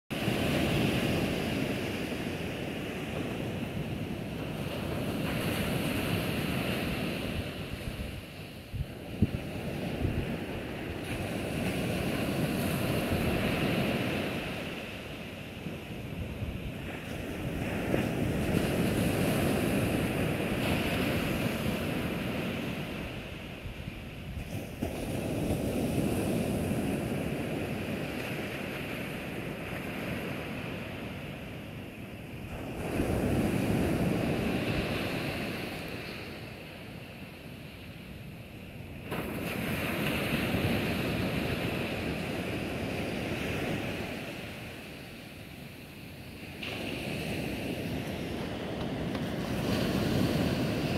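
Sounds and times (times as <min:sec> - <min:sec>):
small waves breaking on beach: 0:00.1 - 0:50.9.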